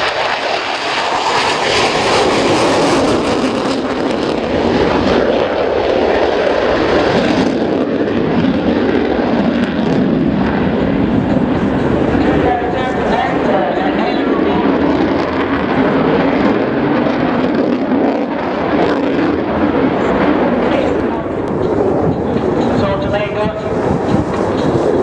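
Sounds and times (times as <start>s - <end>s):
jet engines roaring with hiss: 0.0s - 25.0s.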